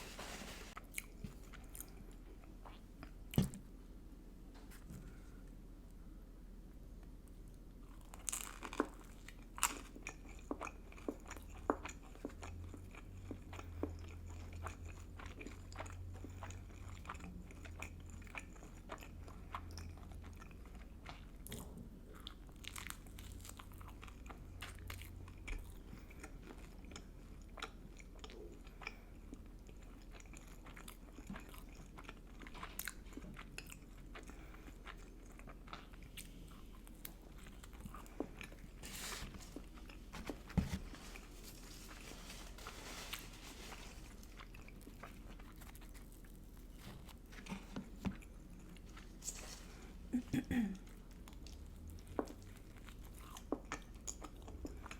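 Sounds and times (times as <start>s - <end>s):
person chewing with wet mouth sounds: 7.3s - 42.7s, 43.3s - 54.9s.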